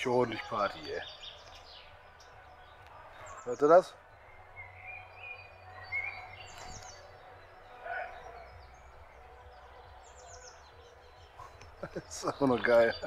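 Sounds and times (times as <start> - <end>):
distant party music bass: 0.0 - 13.0
songbird chirps: 0.0 - 13.0.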